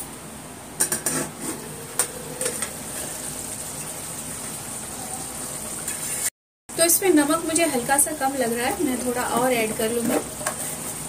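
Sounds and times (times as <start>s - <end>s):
sauce sizzling in pan: 1.4s - 6.3s, 6.9s - 11.0s.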